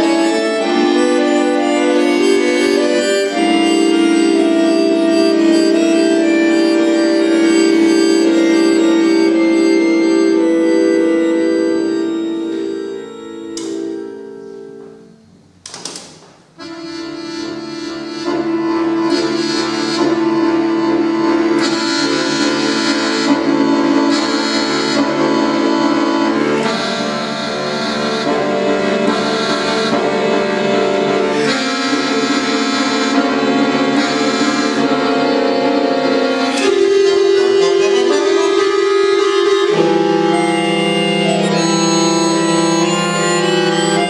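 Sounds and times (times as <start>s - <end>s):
button accordion playing: 0.0s - 15.2s, 16.6s - 44.0s.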